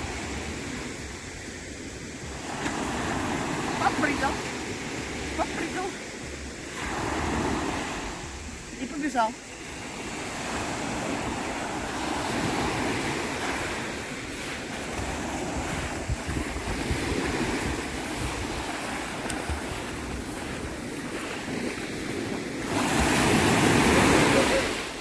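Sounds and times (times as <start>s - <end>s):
surf washing on shore: 0.0s - 25.0s
wind on microphone: 0.0s - 25.0s.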